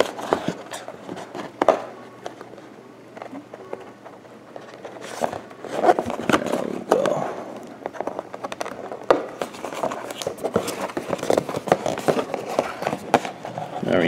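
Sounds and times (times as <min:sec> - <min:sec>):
scraping and rustling of packaging: 0:00.0 - 0:14.0.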